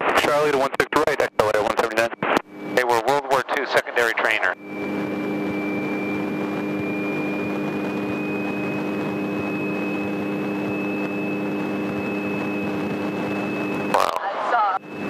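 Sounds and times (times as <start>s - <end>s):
airplane engine through headset: 0.0s - 15.0s
thin high whine: 0.0s - 15.0s.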